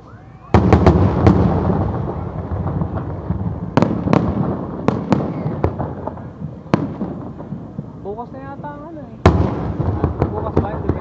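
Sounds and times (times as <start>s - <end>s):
rumbling fireworks barrage: 0.0s - 11.0s.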